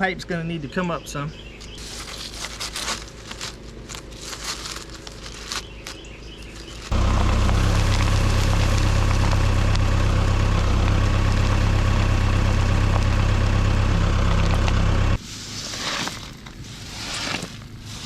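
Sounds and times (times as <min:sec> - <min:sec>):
engine humming: 0:01.4 - 0:18.0
crunching and rustling: 0:01.6 - 0:18.0.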